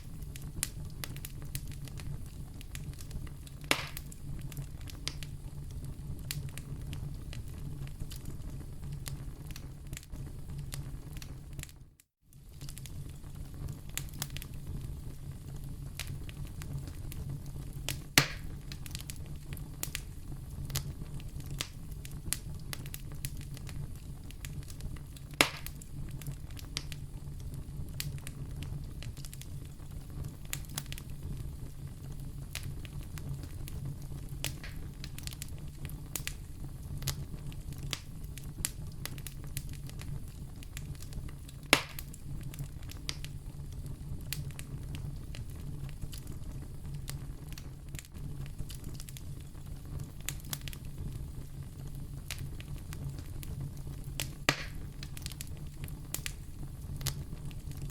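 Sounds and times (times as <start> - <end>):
fire crackles and pops: 0.0 - 57.9
low rumble of flames: 0.0 - 57.9.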